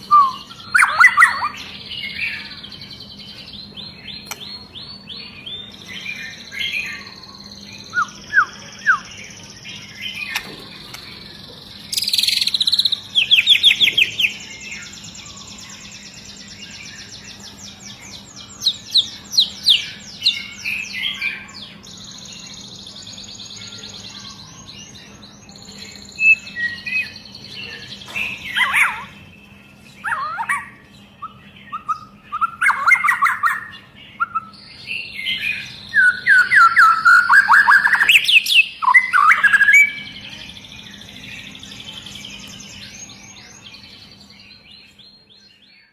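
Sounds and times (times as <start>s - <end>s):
bird singing loud varied phrases: 0.0s - 45.9s.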